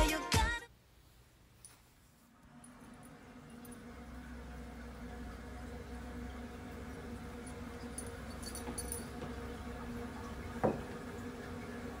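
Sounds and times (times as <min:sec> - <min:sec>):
low room hum: 0:00.6 - 0:12.0.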